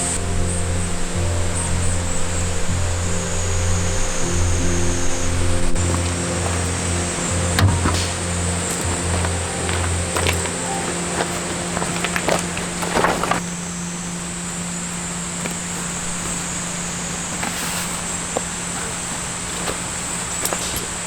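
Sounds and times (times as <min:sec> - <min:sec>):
rustling: 0:04.0 - 0:21.0.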